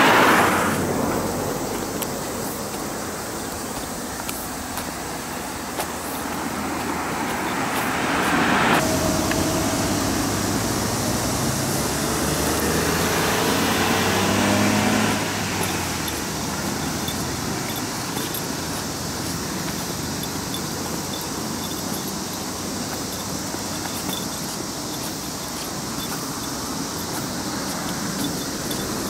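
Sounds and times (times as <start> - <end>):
vehicles passing: 0.0 - 29.0.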